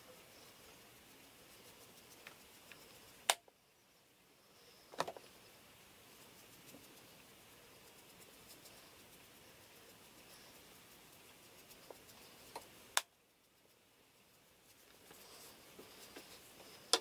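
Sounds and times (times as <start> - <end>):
brush scratching on skin: 0.1 - 3.3, 4.5 - 17.0.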